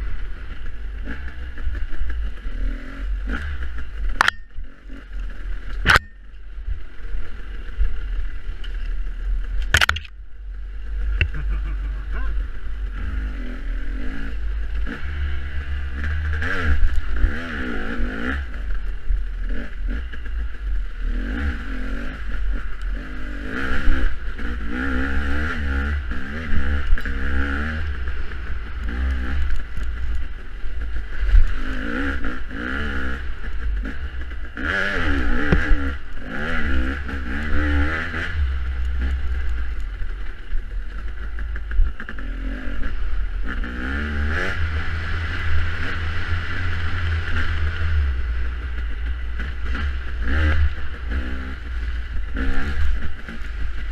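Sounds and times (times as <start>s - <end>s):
dirt bike engine revving: 0.0s - 10.1s, 10.8s - 53.9s.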